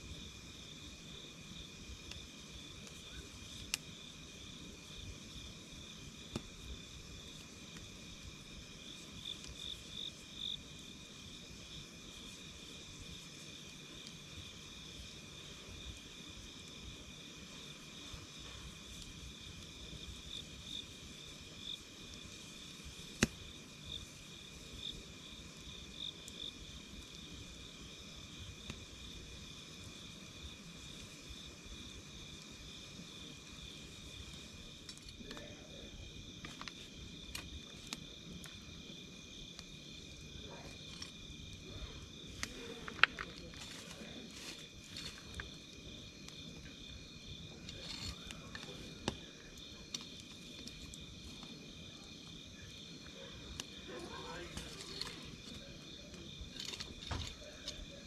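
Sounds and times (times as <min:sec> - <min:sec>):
campfire crackling and popping: 0:00.0 - 0:58.0
night insects chirping: 0:00.0 - 0:58.0.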